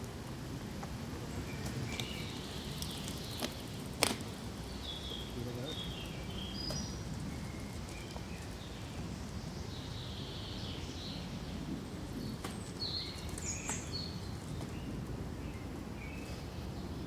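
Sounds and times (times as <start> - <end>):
wind rustling through pine trees: 0.0 - 17.0
small birds chirping: 1.4 - 17.0.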